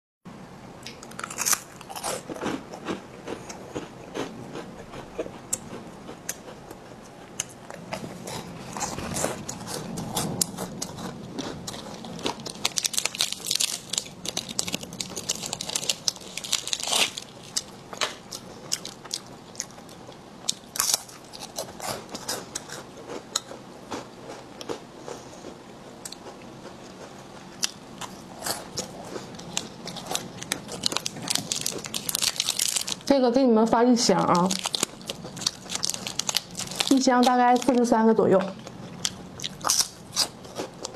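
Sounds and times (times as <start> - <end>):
crunchy snack chewing: 0.8 - 33.1, 34.3 - 37.9, 38.6 - 40.9.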